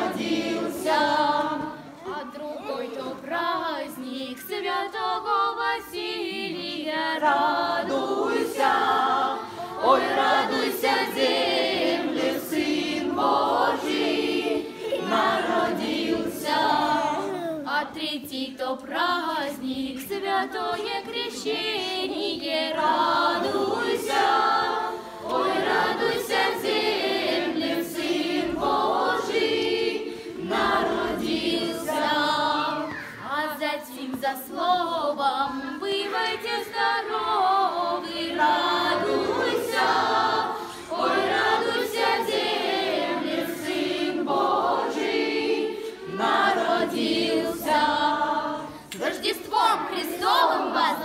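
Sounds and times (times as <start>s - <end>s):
children's choir singing a carol: 0.0s - 51.0s.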